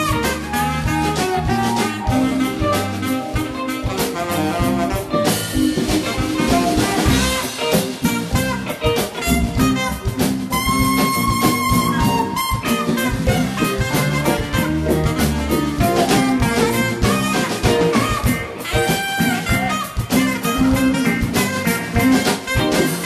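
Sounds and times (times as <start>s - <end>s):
alto saxophone lead: 0.0s - 23.0s
drum kit: 0.0s - 23.0s
electric bass: 0.0s - 23.0s.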